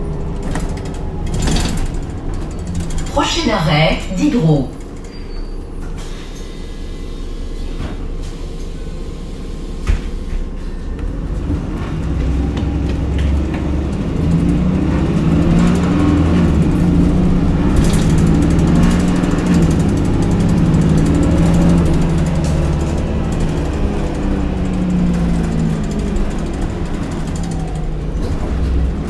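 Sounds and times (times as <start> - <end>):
bus engine accelerating: 0.0 - 29.0.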